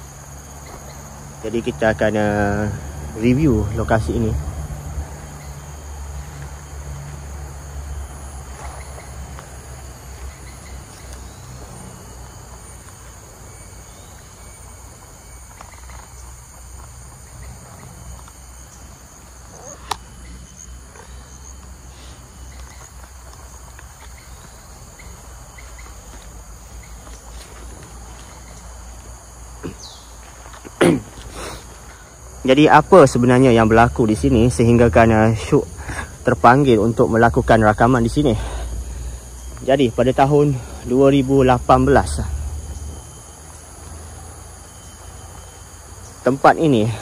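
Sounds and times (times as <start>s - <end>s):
insects buzzing: 0.0s - 47.0s.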